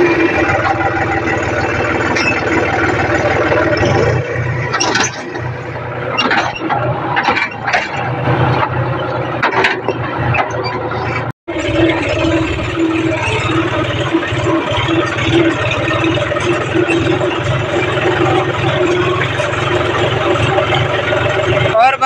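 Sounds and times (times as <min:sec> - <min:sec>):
sharp clanks and rattles: 0:00.0 - 0:22.0
tractor diesel engine running: 0:00.0 - 0:22.0.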